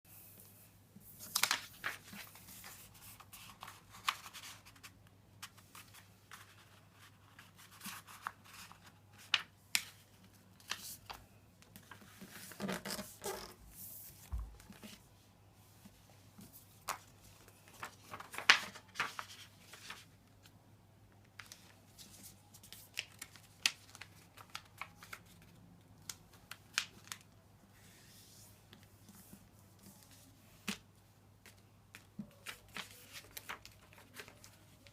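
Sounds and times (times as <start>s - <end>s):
paper rustling and crackling: 1.1s - 13.6s, 16.4s - 20.5s, 21.4s - 30.8s, 31.4s - 34.9s.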